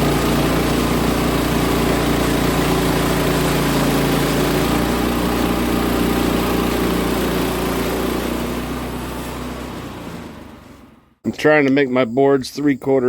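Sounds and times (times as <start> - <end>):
sawmill engine running: 0.0 - 11.7.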